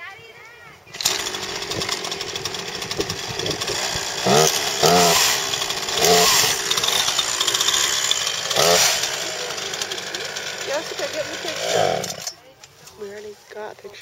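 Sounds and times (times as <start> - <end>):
chainsaw running: 0.9 - 12.4.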